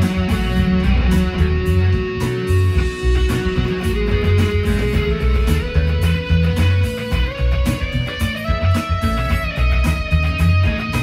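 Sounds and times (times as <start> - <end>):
electric guitar lead: 0.0 - 11.0.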